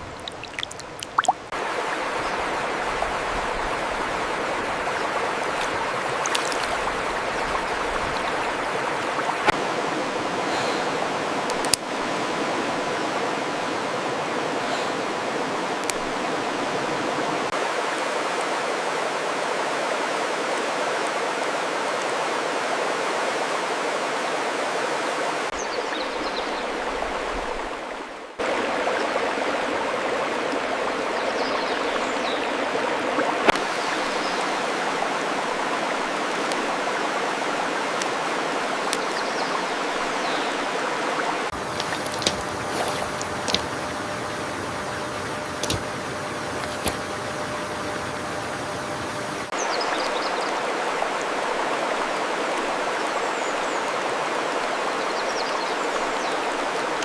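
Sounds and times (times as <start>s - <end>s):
stream running water: 0.0s - 57.0s.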